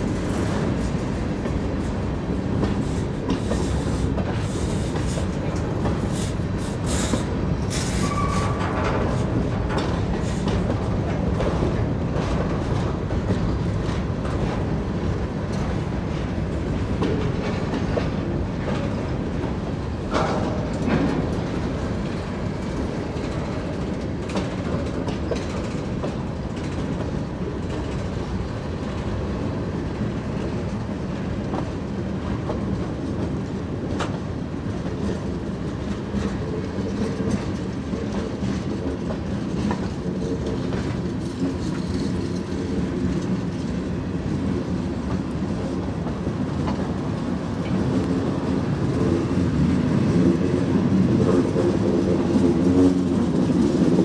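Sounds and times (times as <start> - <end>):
clickety-clack over rail joints: 0.0 - 54.0
train wheels rumbling: 0.0 - 54.0.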